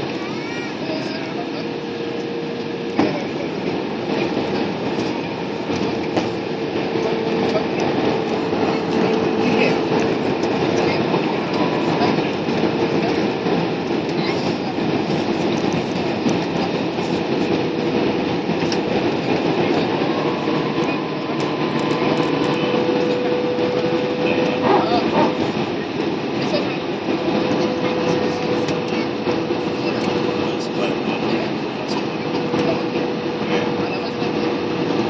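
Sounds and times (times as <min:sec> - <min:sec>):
airliner cabin rumble: 0:00.0 - 0:35.0
constant hum: 0:00.0 - 0:35.0.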